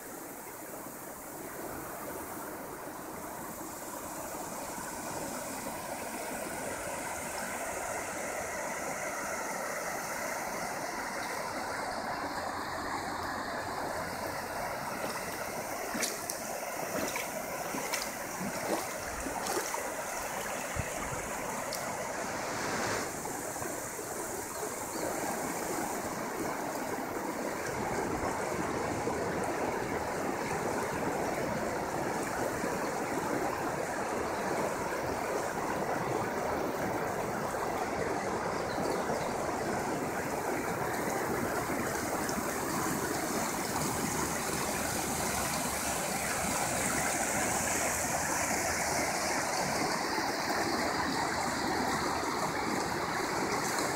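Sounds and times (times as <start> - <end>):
river water rushing over rocks: 0.0 - 53.9.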